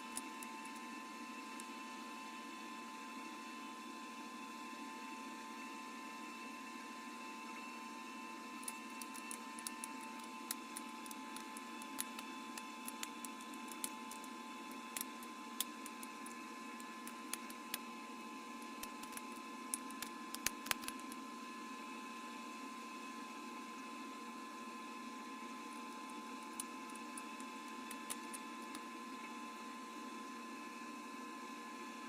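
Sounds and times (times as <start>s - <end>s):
steady hum with faint whine: 0.0s - 32.0s.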